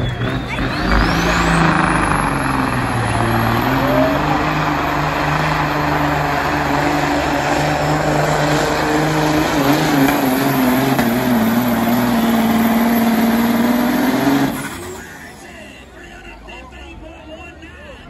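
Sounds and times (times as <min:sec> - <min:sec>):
diesel truck engine at full throttle: 0:00.0 - 0:18.0.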